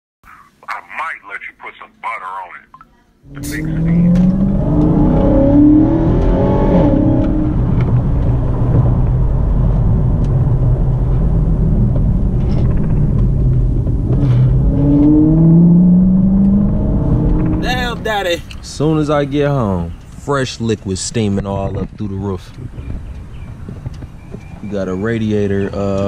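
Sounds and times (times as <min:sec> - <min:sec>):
road rumble: 0:03.2 - 0:26.0
car engine accelerating: 0:03.3 - 0:26.0.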